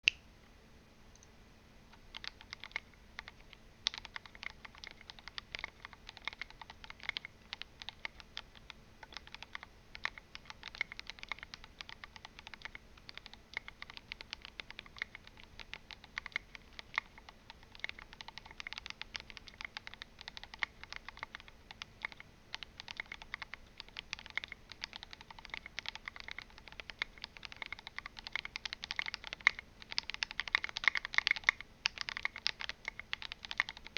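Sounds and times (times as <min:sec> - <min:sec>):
fast typing on mechanical keyboard: 0:02.0 - 0:33.9.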